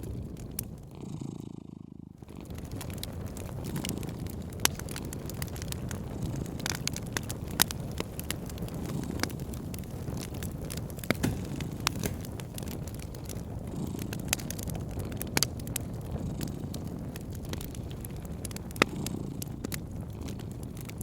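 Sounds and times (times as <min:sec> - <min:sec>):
wood fire pops: 0:00.0 - 0:00.9, 0:02.2 - 0:21.0
wood fire rumble: 0:00.0 - 0:21.0.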